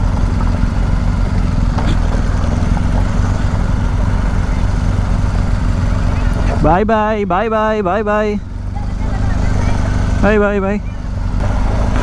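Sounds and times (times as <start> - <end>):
motorcycle engine at low revs: 0.0 - 12.0
road noise: 0.0 - 12.0.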